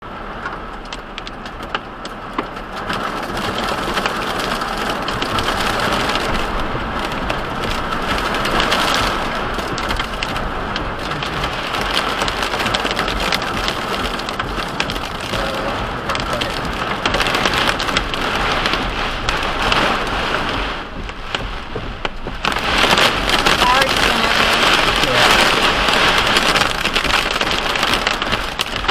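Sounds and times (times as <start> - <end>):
heavy rain falling: 0.0 - 28.9.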